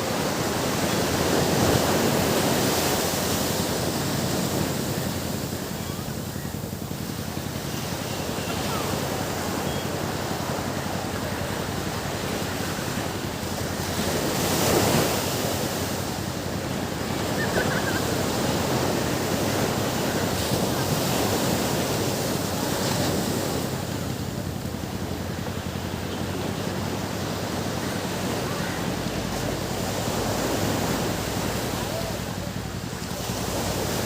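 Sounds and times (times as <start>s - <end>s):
ocean waves breaking on beach: 0.0s - 34.0s.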